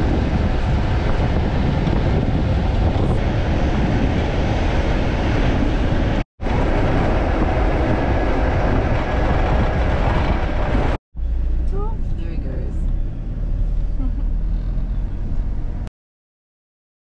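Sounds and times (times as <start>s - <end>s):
road rumble: 0.0s - 15.9s
wind buffeting microphone: 0.0s - 15.9s.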